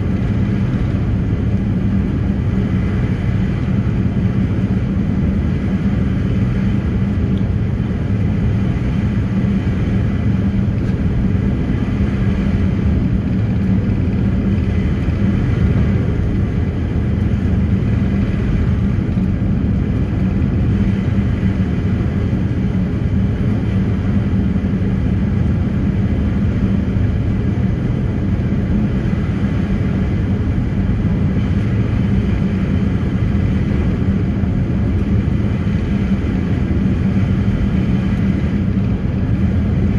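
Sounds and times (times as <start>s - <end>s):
ferry engines droning: 0.0s - 39.9s.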